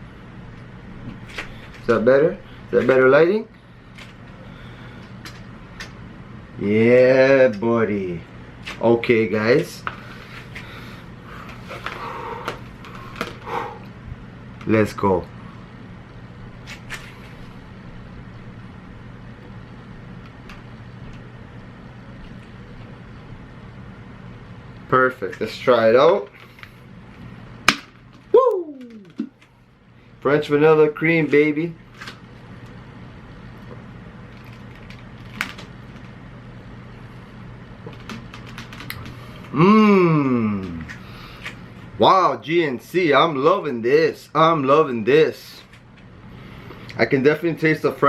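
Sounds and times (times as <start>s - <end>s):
low appliance hum: 0.0s - 48.0s.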